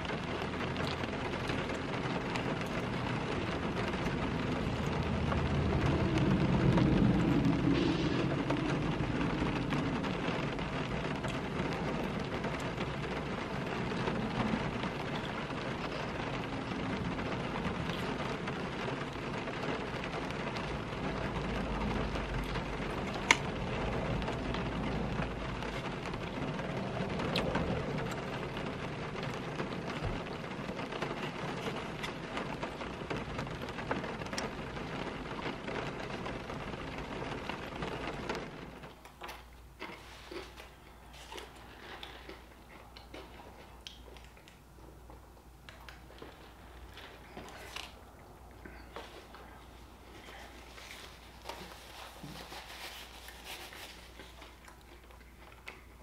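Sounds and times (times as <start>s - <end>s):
rain on car roof: 0.0s - 56.0s.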